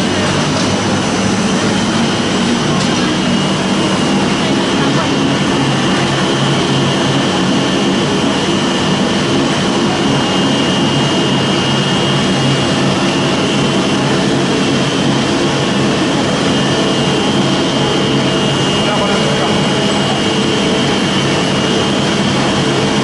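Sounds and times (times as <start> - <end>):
high machine whine: 0.0 - 23.0
pellet mill machine drone: 0.0 - 23.0.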